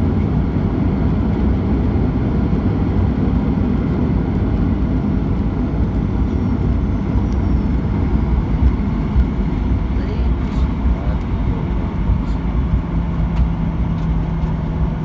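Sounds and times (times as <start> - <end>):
airplane cabin low rumble: 0.0 - 15.0.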